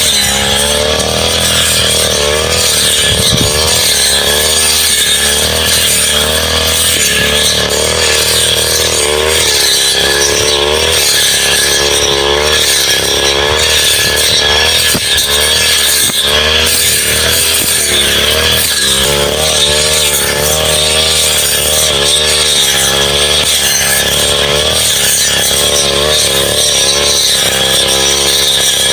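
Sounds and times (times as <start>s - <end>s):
brush cutter engine at high revs: 0.0s - 28.9s.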